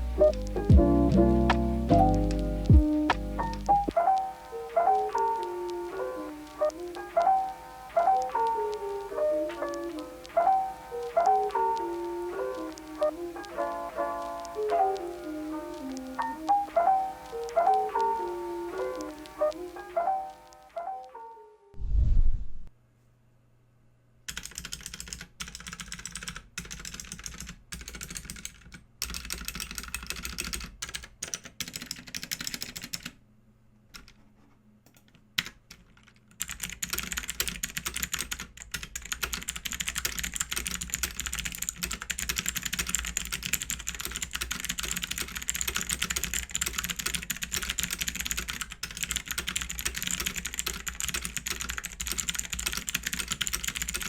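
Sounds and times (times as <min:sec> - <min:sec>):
clicky mechanical keyboard typing: 0:00.0 - 0:20.4, 0:24.3 - 0:33.2, 0:34.9 - 0:54.0.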